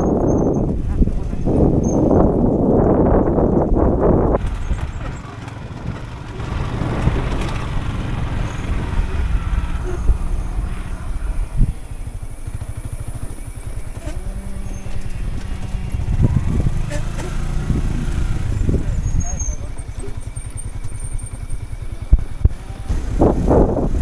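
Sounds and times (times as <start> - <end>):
motorcycle engine rumbling: 0.0 - 24.0
wind buffeting microphone: 0.0 - 24.0.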